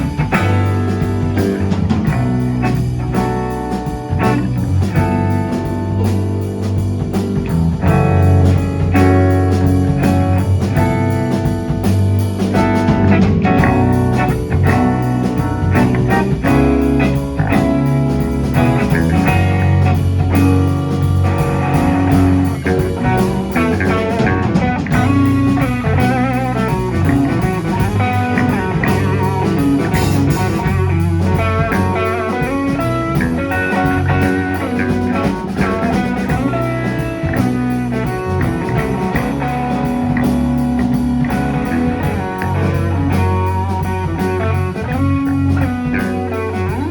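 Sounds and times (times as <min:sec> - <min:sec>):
bass guitar: 0:00.0 - 0:46.9
drum kit: 0:00.0 - 0:46.9
electric guitar lead: 0:00.0 - 0:46.9.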